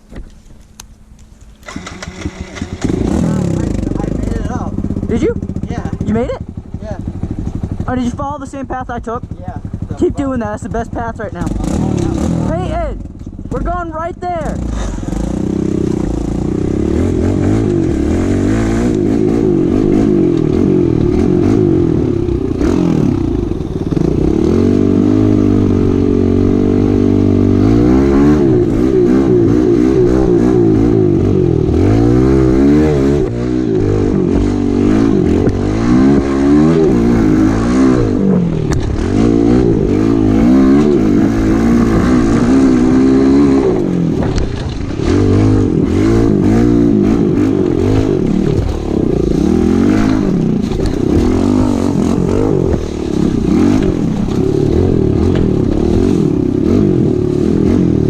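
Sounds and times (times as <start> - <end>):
pit bike engine revving: 1.6 - 58.0.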